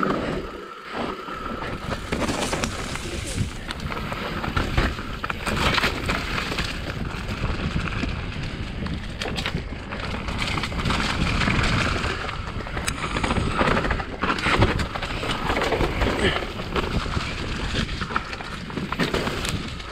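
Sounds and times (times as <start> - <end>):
bike tyres rumbling on dirt: 0.0 - 19.9
wind on microphone: 1.3 - 19.9
bike knocks and rattles: 1.5 - 19.9.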